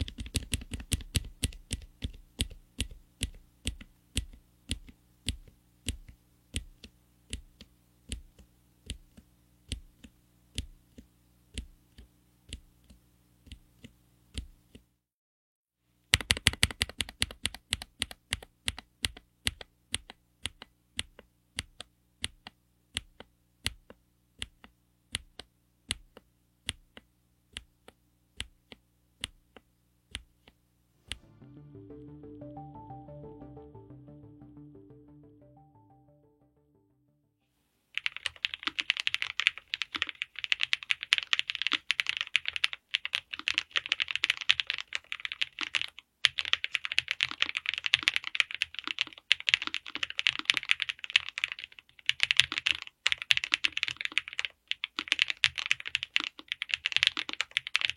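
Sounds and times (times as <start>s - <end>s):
regular sharp clicks: 0.0s - 14.9s, 16.1s - 36.4s, 38.0s - 57.9s.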